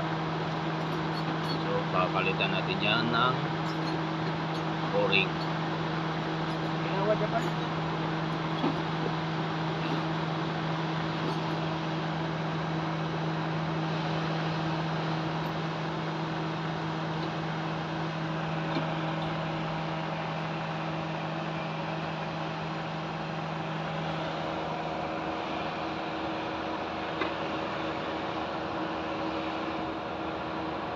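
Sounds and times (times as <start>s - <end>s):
air conditioning rushing: 0.0s - 30.9s.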